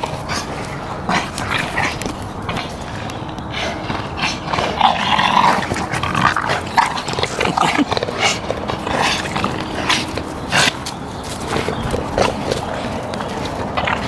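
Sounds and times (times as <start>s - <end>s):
dogs play-fighting: 0.0s - 14.0s.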